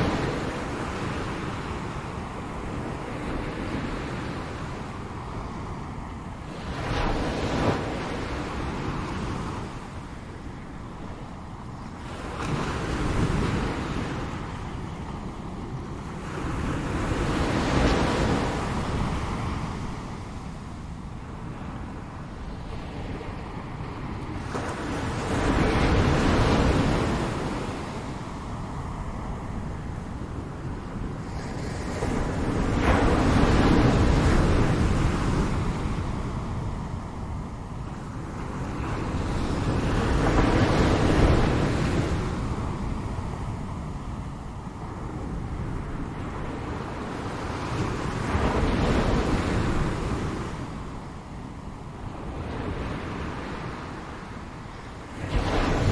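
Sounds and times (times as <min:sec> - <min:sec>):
ocean waves breaking on shore: 0:00.0 - 0:55.9
wind rumble on microphone: 0:00.0 - 0:55.9.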